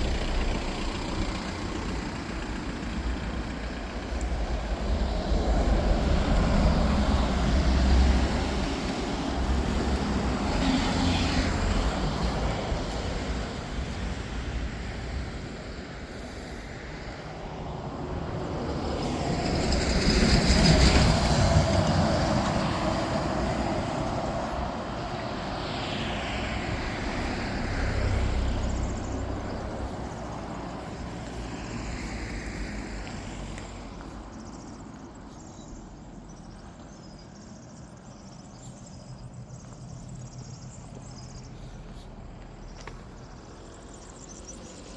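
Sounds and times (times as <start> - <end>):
passing vehicle rumble: 0.0 - 44.9.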